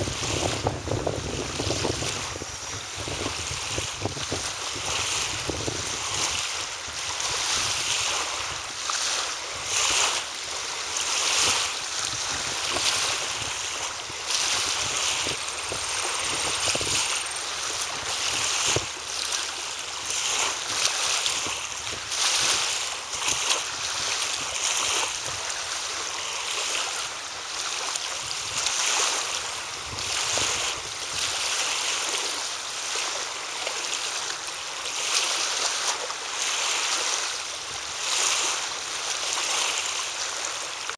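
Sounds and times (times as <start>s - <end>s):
rushing outdoor noise: 0.0s - 40.9s.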